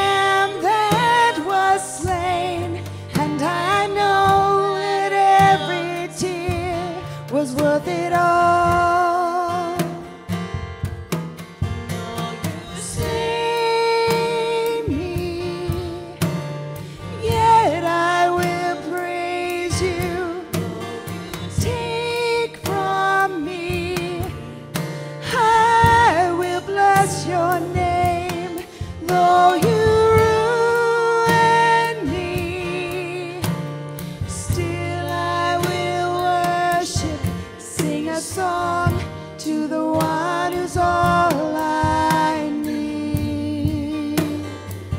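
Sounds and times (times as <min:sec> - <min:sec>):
women singing together: 0:00.0 - 0:10.1, 0:11.9 - 0:44.8
acoustic guitar: 0:00.0 - 0:44.9.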